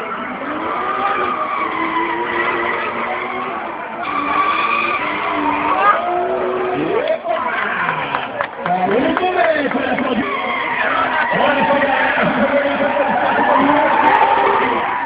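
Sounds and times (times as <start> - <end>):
car engine revving: 0.0 - 15.0
tyres screeching on asphalt: 0.0 - 15.0.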